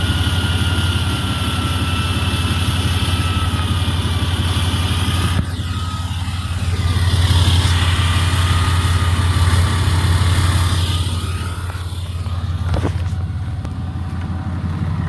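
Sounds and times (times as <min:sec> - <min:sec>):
deep truck exhaust rumble: 0:00.0 - 0:15.0.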